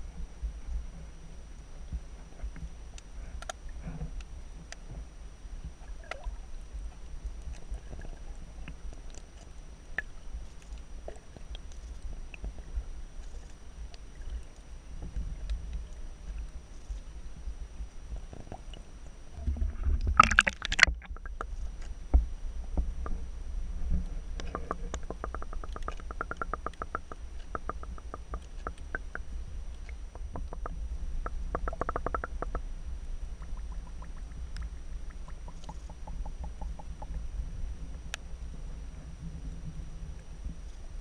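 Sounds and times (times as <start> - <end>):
deep underwater rumble: 0.0 - 41.0.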